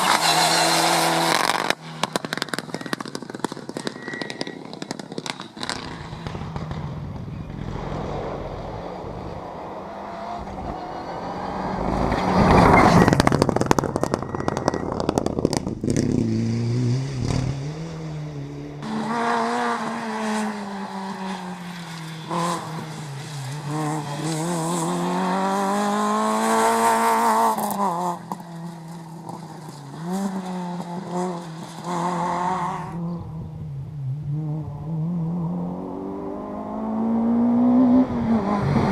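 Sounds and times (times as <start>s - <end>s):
rally car passing at speed: 0.0s - 38.9s.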